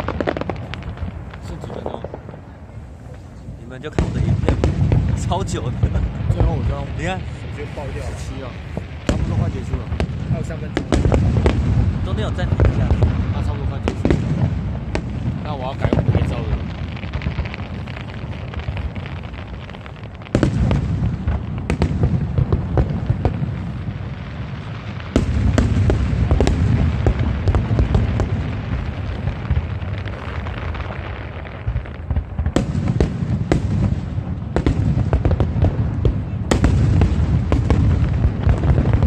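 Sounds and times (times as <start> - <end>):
fireworks booming and crackling: 0.0 - 39.0.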